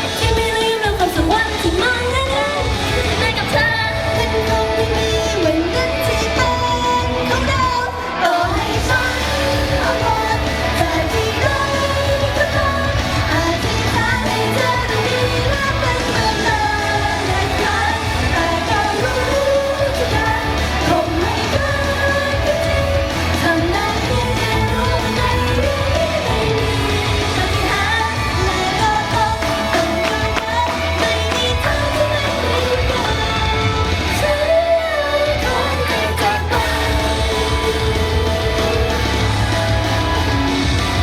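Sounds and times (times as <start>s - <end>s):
person singing: 0.0s - 39.2s
pop backing track with heavy bass: 0.0s - 41.0s.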